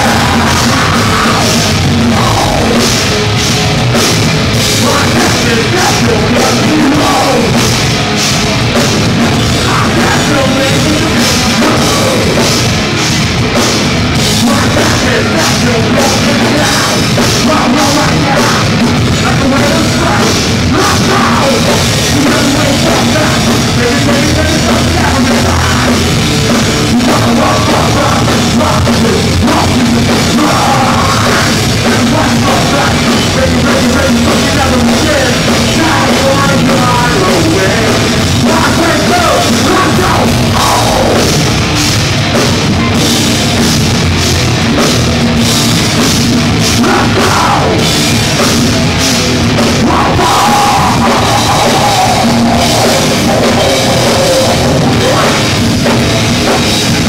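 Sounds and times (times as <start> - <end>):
drum kit pounding: 0.0 - 57.0
rock band playing live: 0.0 - 57.0.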